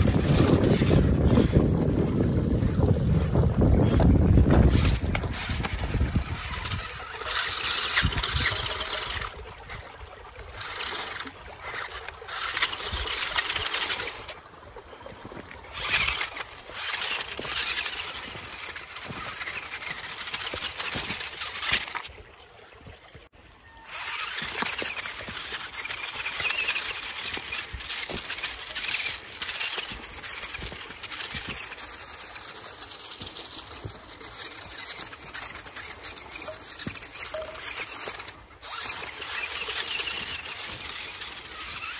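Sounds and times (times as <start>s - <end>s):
toy car tyres crunching stones: 0.0s - 22.2s, 23.7s - 41.9s.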